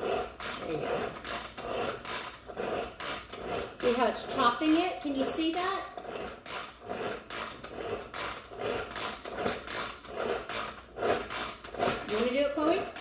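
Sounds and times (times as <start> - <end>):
plunger food chopper chopping: 0.0 - 13.0.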